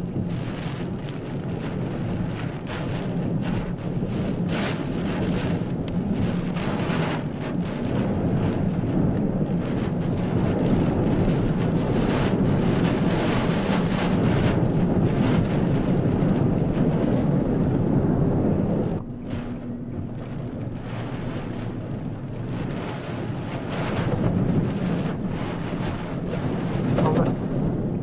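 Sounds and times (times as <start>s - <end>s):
heavy rain: 0.0s - 28.0s
strong wind buffeting microphone: 0.0s - 28.0s.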